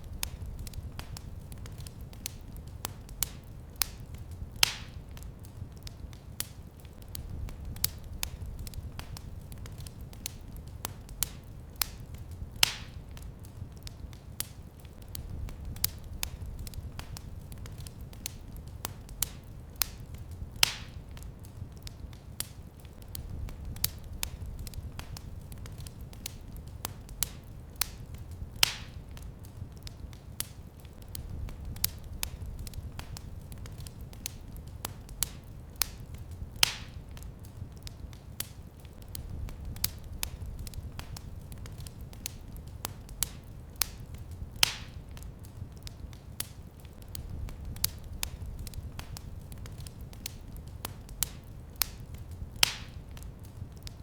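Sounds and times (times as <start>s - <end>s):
fire crackling in fireplace: 0.0s - 54.0s
fire pops: 0.0s - 54.0s.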